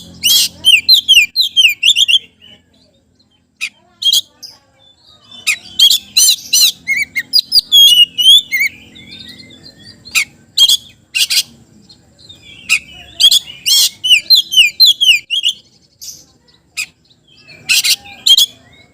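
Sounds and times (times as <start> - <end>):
bird singing whistles and trills: 0.0 - 18.9.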